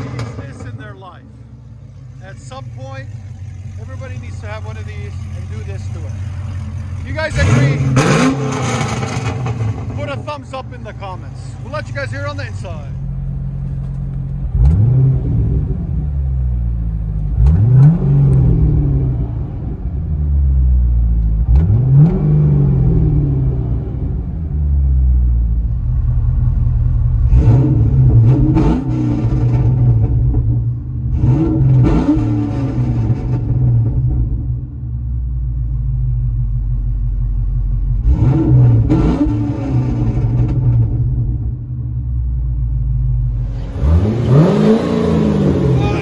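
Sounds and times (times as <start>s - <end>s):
car engine idling and revving: 0.0s - 46.0s
exhaust crackle: 0.0s - 46.0s.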